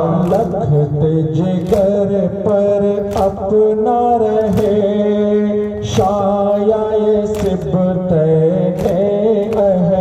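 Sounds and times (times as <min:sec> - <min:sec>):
group of men chanting: 0:00.0 - 0:10.0.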